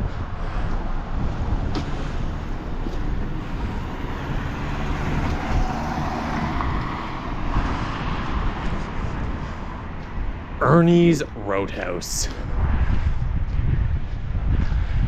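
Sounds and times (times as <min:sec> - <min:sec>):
road traffic going by: 0:00.0 - 0:15.0
wind buffeting microphone: 0:00.0 - 0:15.0.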